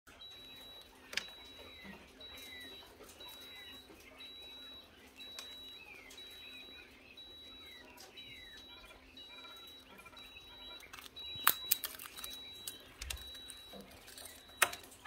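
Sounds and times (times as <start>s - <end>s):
faint electronic beeps: 0.1s - 15.0s
parrot chirping: 0.1s - 15.0s.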